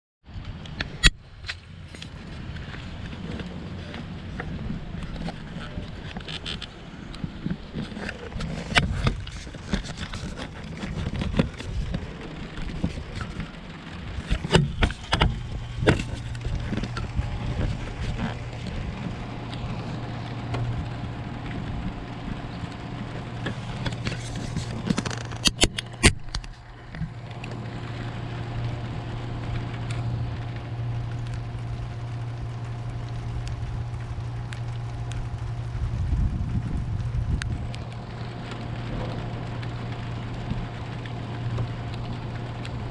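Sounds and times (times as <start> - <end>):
steady low hum: 0.2 - 42.9
rain falling: 0.4 - 42.9.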